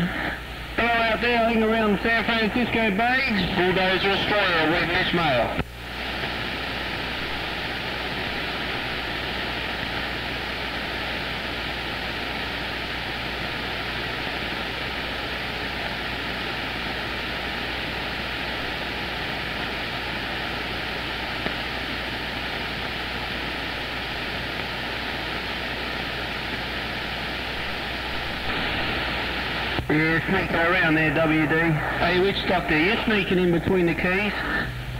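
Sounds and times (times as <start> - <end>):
radio static hiss: 0.0 - 34.9.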